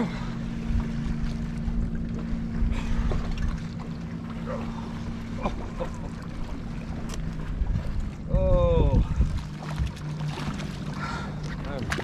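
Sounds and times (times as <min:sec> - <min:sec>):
boat motor humming: 0:00.0 - 0:12.0
faint water sounds: 0:00.0 - 0:12.0.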